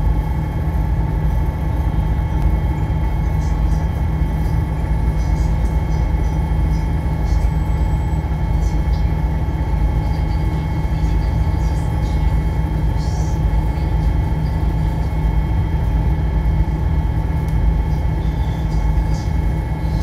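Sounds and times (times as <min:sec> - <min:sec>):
ferry engine droning: 0:00.0 - 0:20.0.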